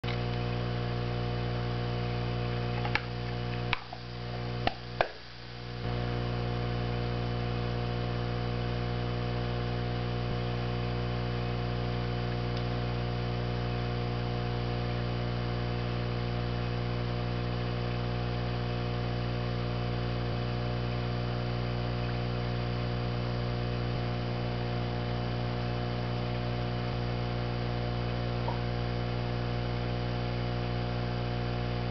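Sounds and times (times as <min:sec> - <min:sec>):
electrical hum: 0:00.0 - 0:31.9.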